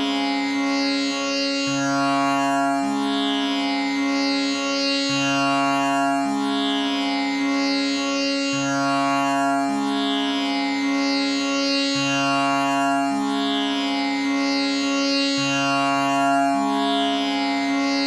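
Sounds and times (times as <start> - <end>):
tanpura drone: 0.0 - 18.0.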